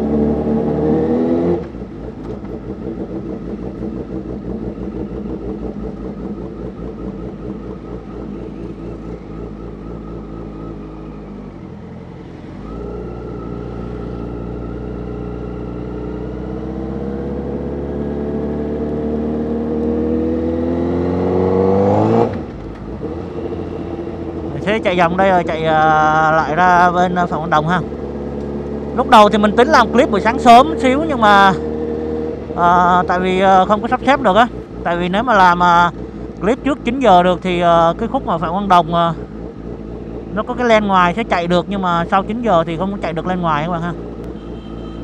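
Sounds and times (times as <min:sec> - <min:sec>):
raspy motorcycle engine revving: 0:00.0 - 0:10.7, 0:12.9 - 0:45.0.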